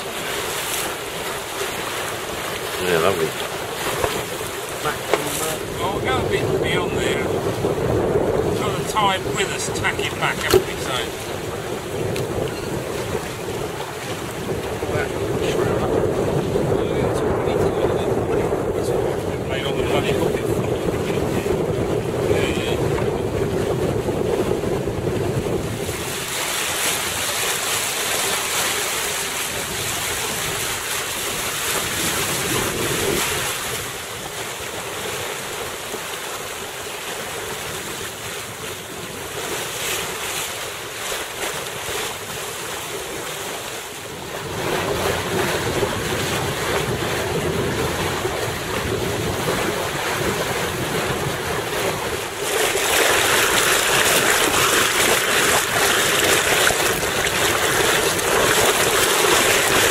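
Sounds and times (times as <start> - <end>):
water splashing along hull: 0.0 - 59.9
wind buffeting microphone: 0.0 - 59.9.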